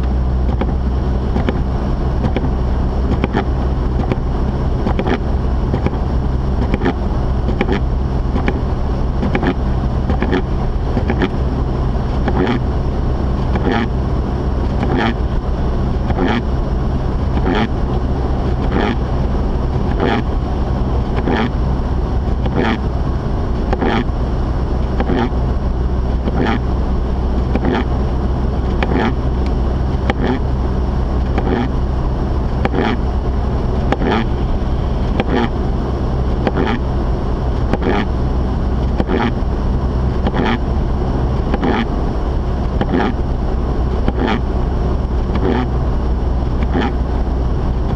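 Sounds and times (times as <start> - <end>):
car engine and road drone: 0.0 - 47.9.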